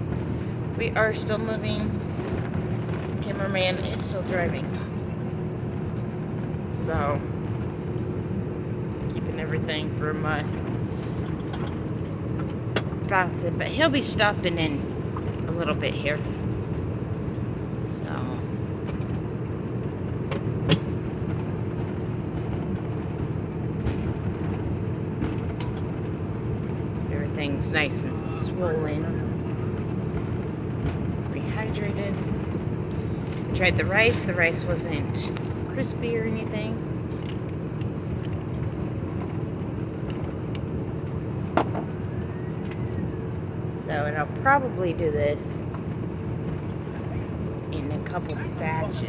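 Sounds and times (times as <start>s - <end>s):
truck driving heard from cab: 0.0s - 49.0s.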